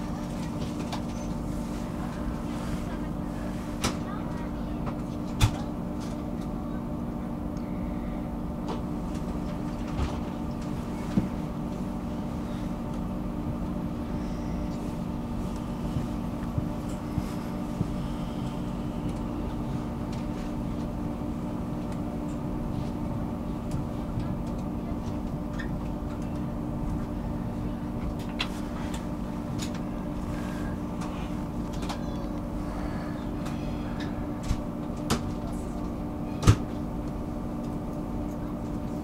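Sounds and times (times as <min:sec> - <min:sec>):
train cabin hum and rumble: 0:00.0 - 0:39.0.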